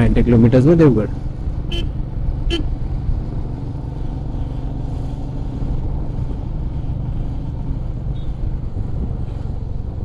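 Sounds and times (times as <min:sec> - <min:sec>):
motorcycle engine running: 0:01.1 - 0:10.0.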